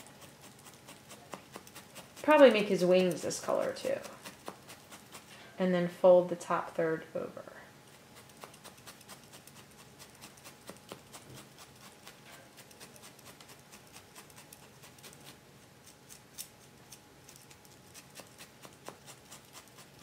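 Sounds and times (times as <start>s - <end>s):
felting needles stabbing wool: 0.0s - 5.3s, 7.9s - 20.0s.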